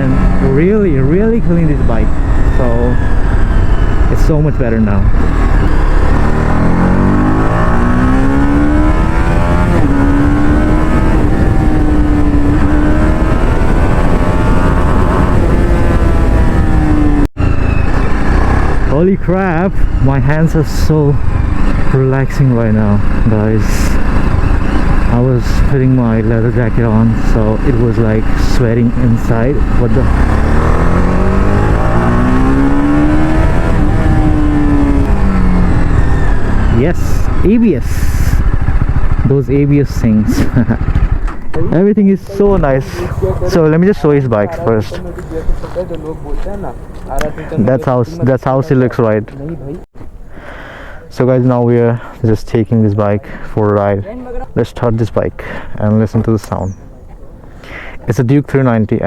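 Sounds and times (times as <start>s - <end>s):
motorcycle engine accelerating: 0.0s - 50.0s
heavy wind rumble: 0.0s - 59.0s.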